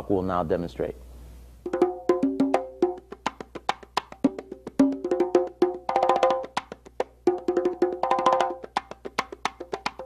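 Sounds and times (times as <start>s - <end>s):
conga drums played by hand: 1.6s - 10.0s.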